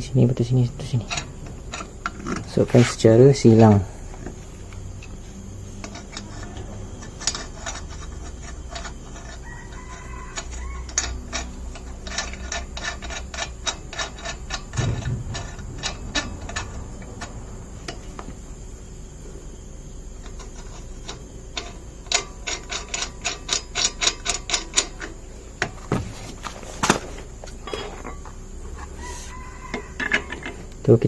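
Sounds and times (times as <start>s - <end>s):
wheel nuts clicking and clinking: 0.0s - 28.4s, 29.7s - 31.0s.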